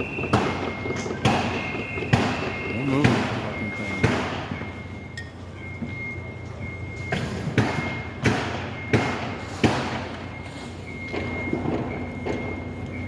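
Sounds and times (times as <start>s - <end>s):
machinery whine: 0.0s - 13.0s.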